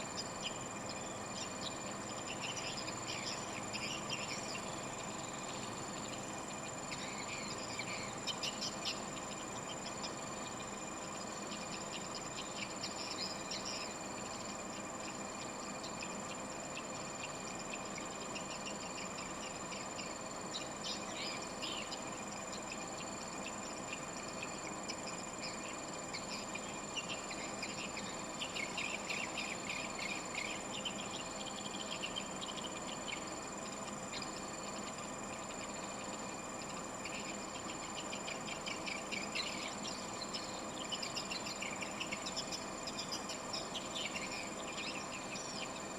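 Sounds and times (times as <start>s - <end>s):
high constant tones: 0.0s - 45.9s.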